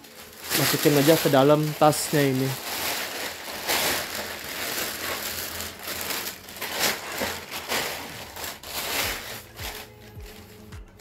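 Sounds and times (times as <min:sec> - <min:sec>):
nylon backpack fabric rustling: 0:00.0 - 0:10.6
plastic bag crinkling: 0:00.0 - 0:10.6.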